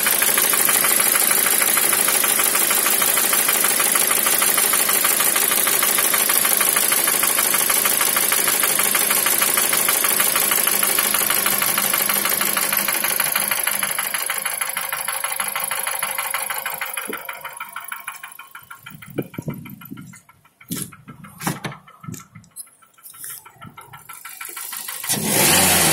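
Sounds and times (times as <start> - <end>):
car engine idling: 0.0 - 25.9
engine knocking: 0.0 - 25.9.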